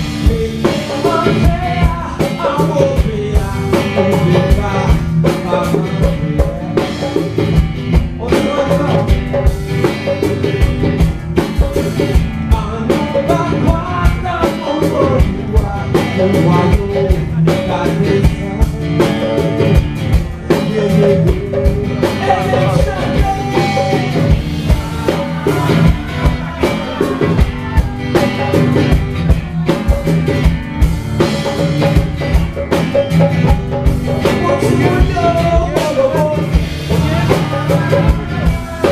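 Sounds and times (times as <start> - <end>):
person singing: 0.0 - 11.7, 12.5 - 38.9
live band dance music: 0.0 - 38.9.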